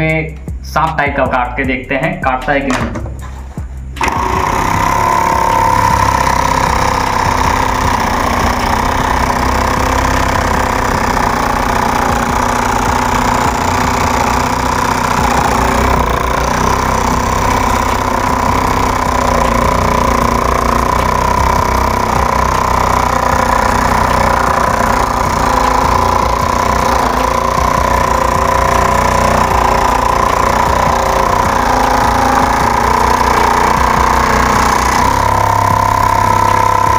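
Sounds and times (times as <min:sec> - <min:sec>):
scroll saw cutting plastic: 0:04.0 - 0:36.9.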